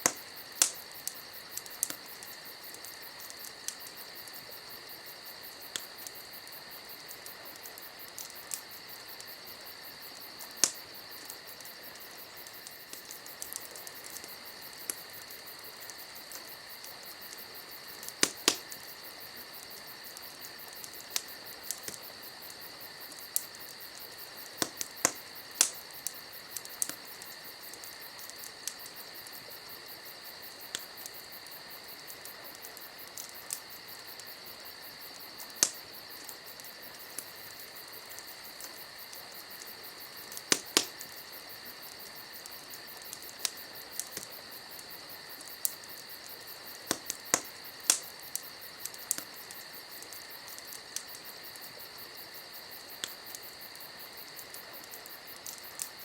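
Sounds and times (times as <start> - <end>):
campfire crackling and popping: 0.0 - 56.0
crickets chirring: 0.0 - 56.0.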